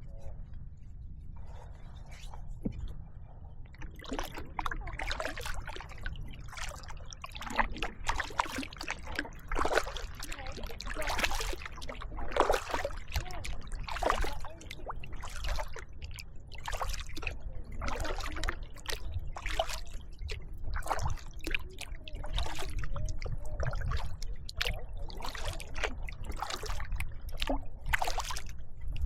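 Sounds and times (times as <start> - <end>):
water trickling off paddle: 3.7 - 29.0
kayak paddle strokes in water: 3.8 - 29.0.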